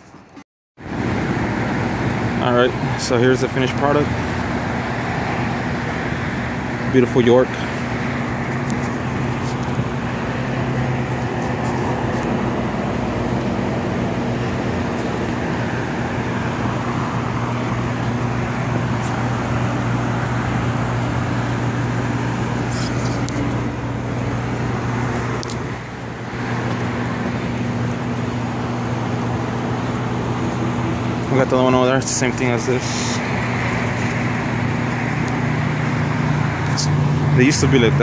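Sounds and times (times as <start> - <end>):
air conditioning unit humming: 0.0 - 38.0.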